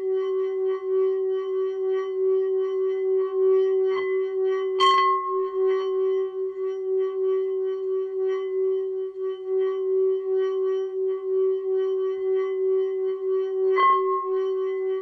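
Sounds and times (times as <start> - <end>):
singing bowl humming: 0.0 - 15.0.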